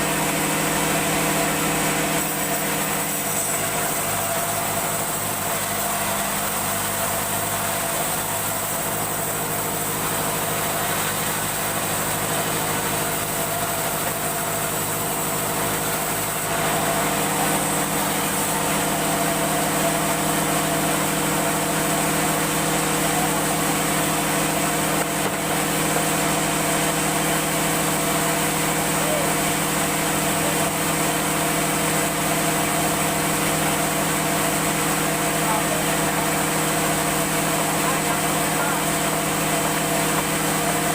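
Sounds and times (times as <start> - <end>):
woodworking machine motor humming: 0.0 - 40.9.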